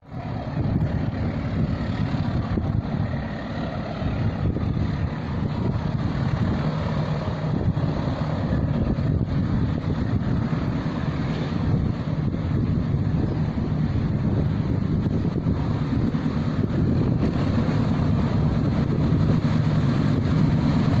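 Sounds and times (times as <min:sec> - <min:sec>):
freight train rumbling past: 0:00.0 - 0:21.0
wind buffeting microphone: 0:00.0 - 0:21.0.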